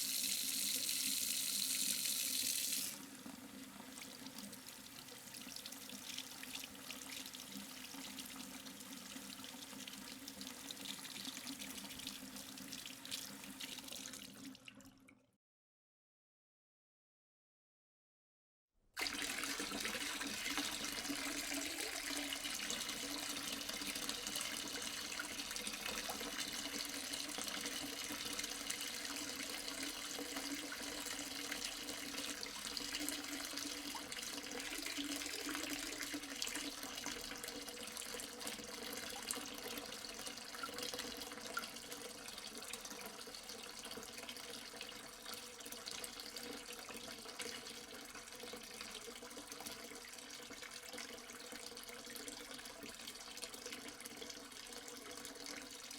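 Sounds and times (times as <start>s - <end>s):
water running in a stream: 0.0s - 14.4s, 19.0s - 55.9s.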